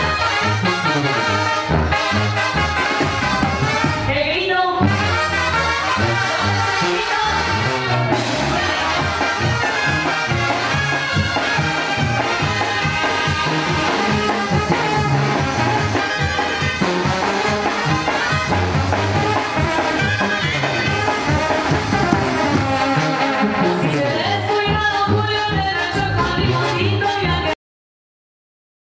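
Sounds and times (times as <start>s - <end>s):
brass band playing: 0.0s - 27.6s.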